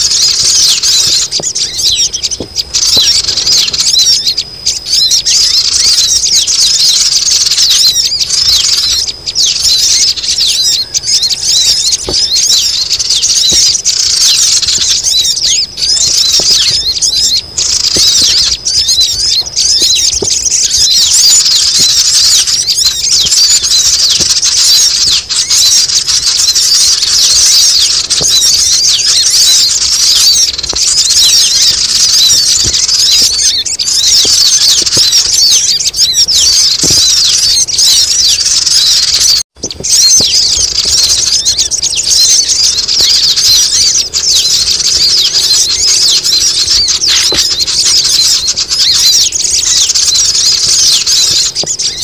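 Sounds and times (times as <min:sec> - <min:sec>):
birds squeaking and chattering: 0:00.0 - 0:52.0.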